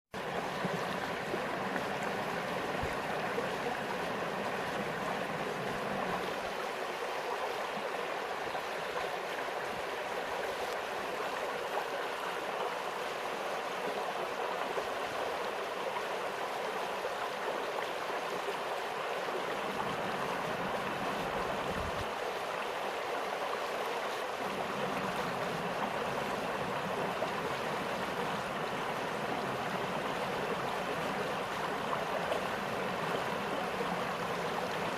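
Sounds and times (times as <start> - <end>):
stream flowing: 0.2 - 34.9.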